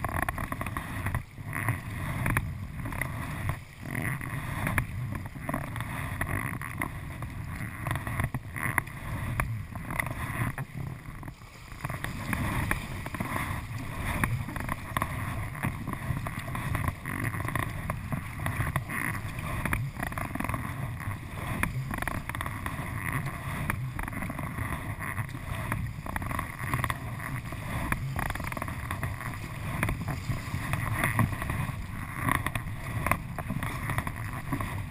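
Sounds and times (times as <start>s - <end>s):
paddle blades dipping and pulling: 0.0s - 34.9s
river water splashing and rushing: 0.0s - 34.9s.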